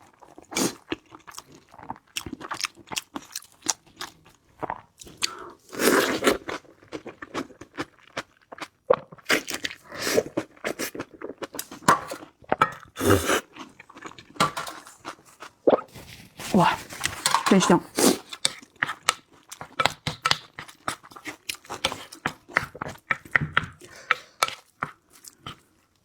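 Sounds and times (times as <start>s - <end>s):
crunching and chewing food: 0.0s - 26.0s.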